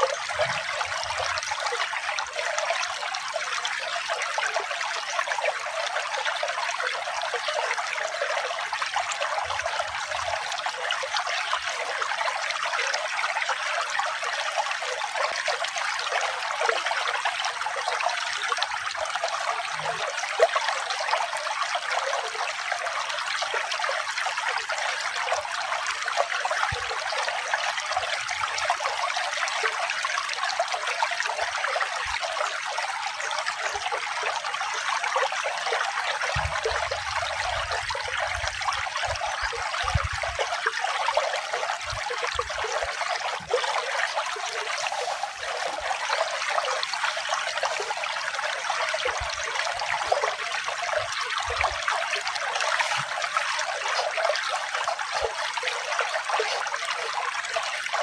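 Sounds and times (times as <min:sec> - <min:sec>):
water trickling and flowing: 0:00.0 - 0:58.0.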